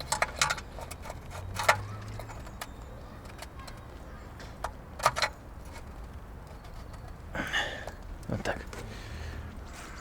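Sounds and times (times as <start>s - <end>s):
low steady background noise: 0.0s - 10.0s.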